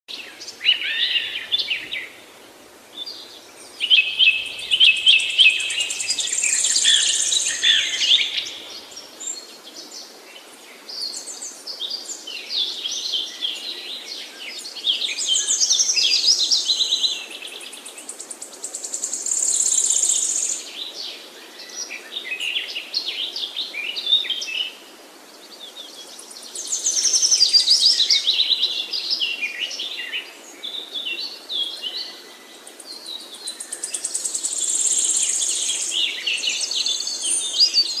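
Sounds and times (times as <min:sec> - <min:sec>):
songbirds singing: 0:00.1 - 0:38.0.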